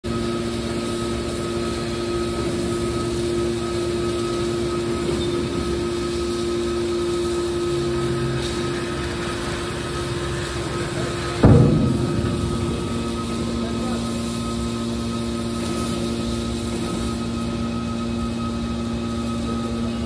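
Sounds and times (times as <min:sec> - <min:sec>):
hydraulic power unit humming: 0:00.0 - 0:20.0.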